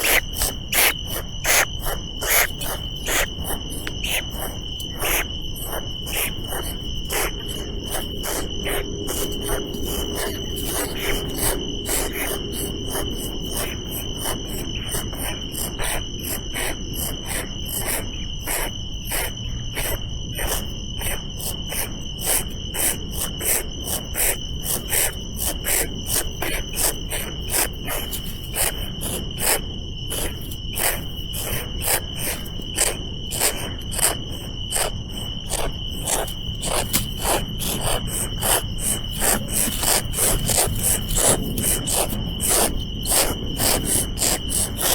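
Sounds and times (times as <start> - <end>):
high insect drone: 0.0 - 44.9.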